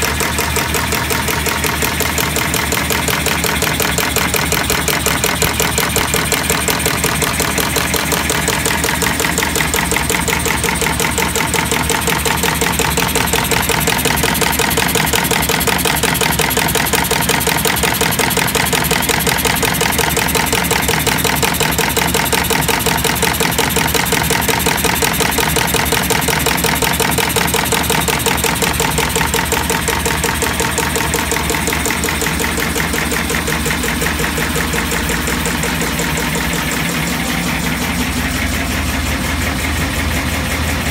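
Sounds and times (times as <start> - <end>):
chain-making machine clatter: 0.0 - 39.8.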